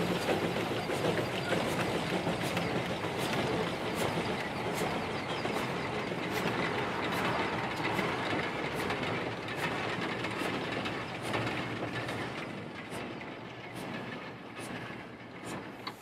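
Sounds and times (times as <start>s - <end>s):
rolling wagons rumble: 0.0s - 16.0s
wheels clicking over rail joints: 0.0s - 16.0s.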